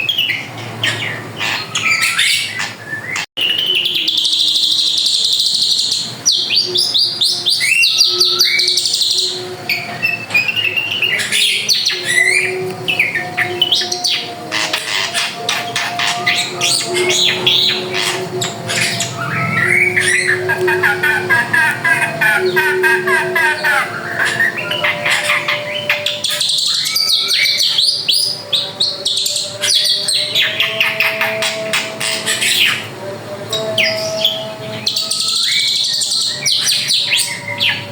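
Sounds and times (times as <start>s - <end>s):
bird singing whistles and trills: 0.0s - 37.9s.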